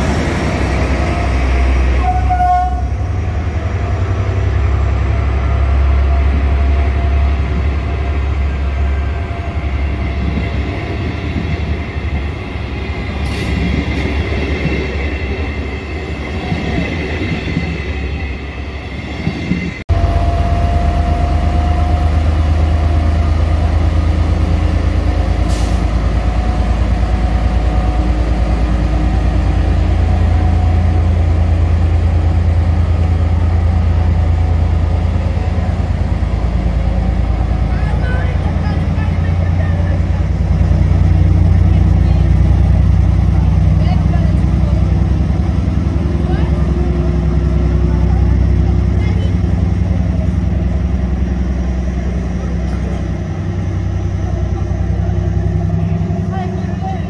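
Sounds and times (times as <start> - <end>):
diesel locomotive engine rumbling: 0.0 - 57.0
train coaches rolling over rails: 0.0 - 57.0.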